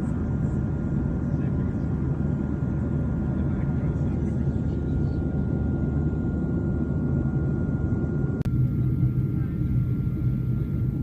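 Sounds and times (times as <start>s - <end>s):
helicopter engine and rotor rumble: 0.0s - 11.0s
thin steady whine: 0.0s - 11.0s.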